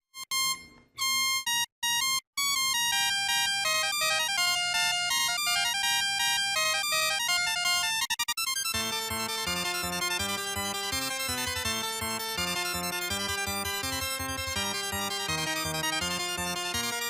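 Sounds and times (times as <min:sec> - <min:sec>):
buzzy synthesized ringtone melody: 0:00.2 - 0:17.0.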